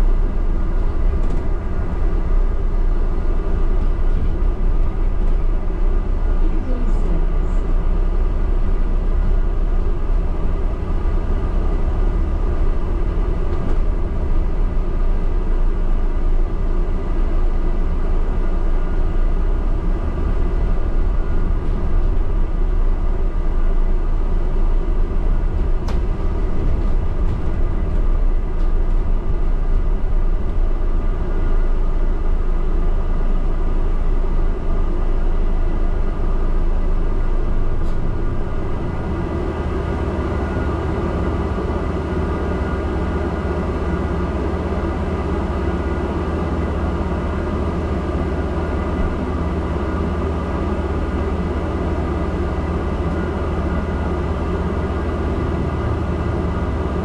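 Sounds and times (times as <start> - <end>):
bus engine low rumble: 0.0 - 57.0.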